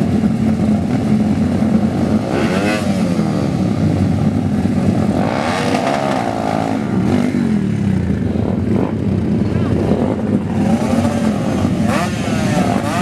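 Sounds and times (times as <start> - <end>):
motorcycle engine revving: 0.0 - 13.0
motorcycle engines droning: 0.0 - 13.0.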